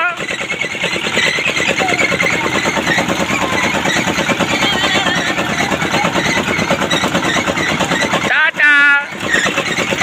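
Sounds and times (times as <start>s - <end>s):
engine chugging: 0.0s - 10.0s.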